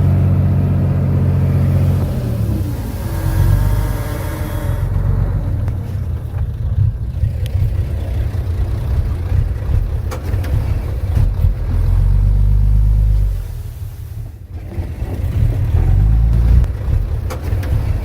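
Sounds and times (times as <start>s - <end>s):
heavy machinery diesel engine rumbling: 0.0s - 18.0s.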